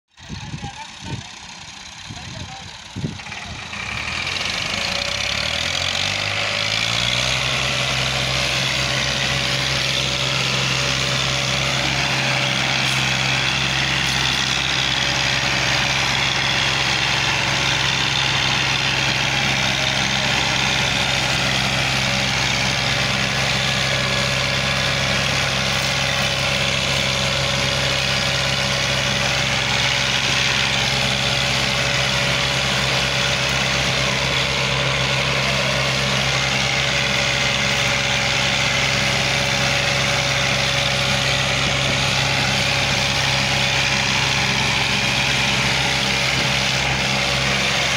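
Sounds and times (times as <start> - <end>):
tractor diesel engines droning: 0.1 - 47.9.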